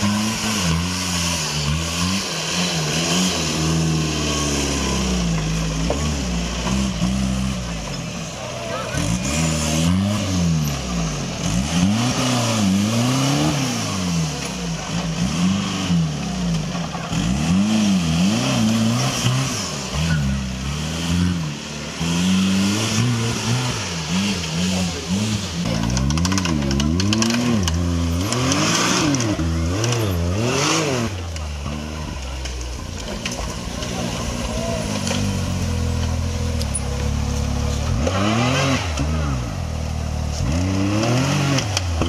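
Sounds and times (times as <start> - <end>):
off-road vehicle engine revving: 0.0 - 42.0.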